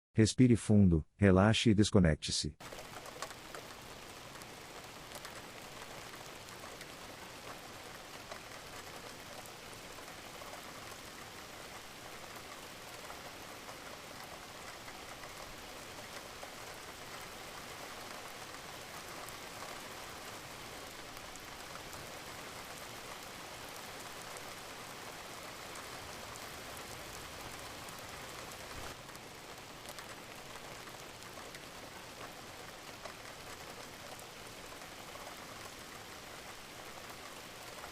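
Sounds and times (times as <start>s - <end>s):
rain falling: 2.6s - 37.9s.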